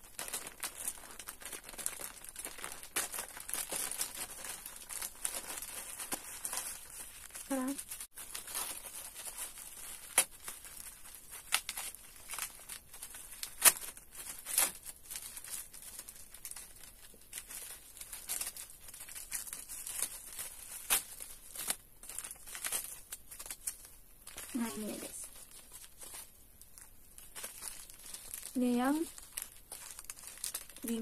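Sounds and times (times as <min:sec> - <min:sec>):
plastic packaging crinkling: 0:00.0 - 0:31.0
plastic packaging ripping: 0:00.0 - 0:31.0.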